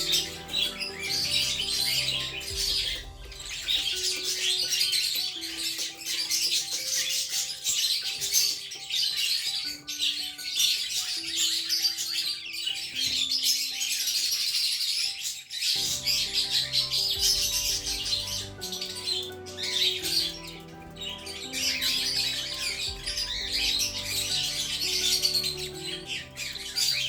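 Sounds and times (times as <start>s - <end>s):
background music of held notes: 0.0s - 27.0s
budgerigars chirping: 0.0s - 27.0s.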